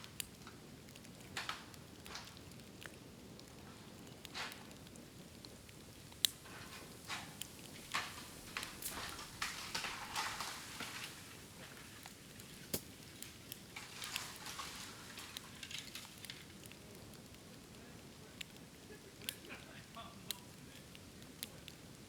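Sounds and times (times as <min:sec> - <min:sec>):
bamboo fire crackling and popping: 0:00.0 - 0:22.0
hissing crackle: 0:00.0 - 0:22.0.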